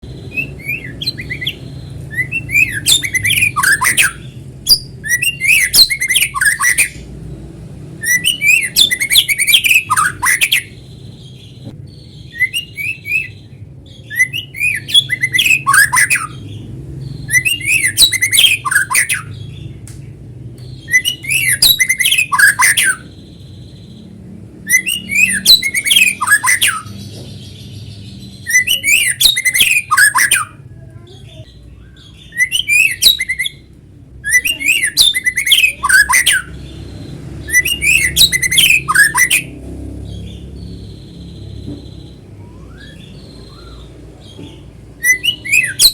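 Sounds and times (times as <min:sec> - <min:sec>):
songbird whistling and chattering: 0:00.0 - 0:45.9.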